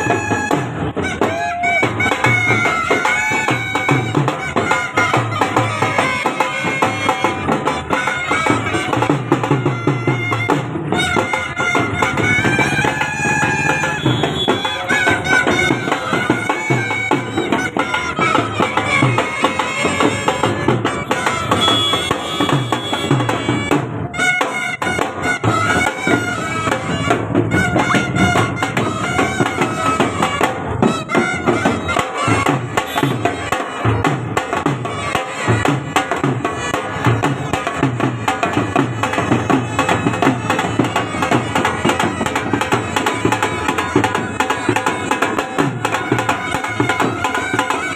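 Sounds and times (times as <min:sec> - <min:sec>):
reedy wind instrument melody: 0:00.0 - 0:47.9
steady drumming: 0:00.0 - 0:47.9.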